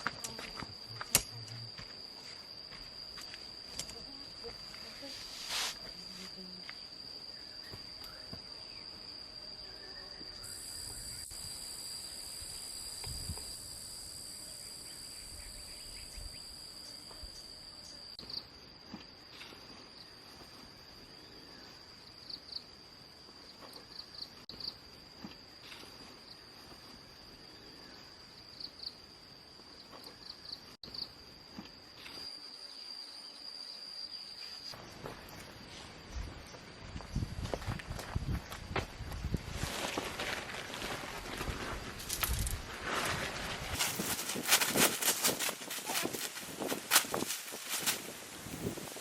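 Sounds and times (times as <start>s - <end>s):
high-pitched insect trill: 0.0s - 49.0s.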